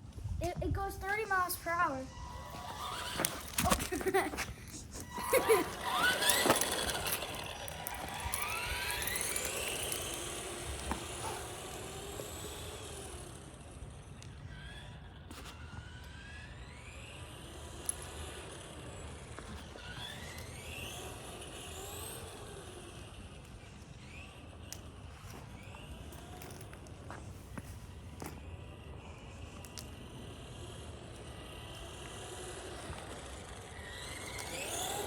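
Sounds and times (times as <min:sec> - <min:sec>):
rc car motor whining: 0:00.7 - 0:35.0.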